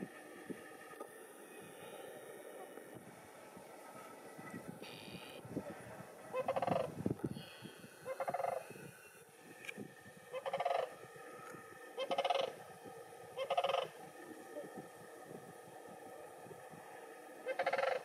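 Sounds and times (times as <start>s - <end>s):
crane rattled calls: 0.0s - 18.0s.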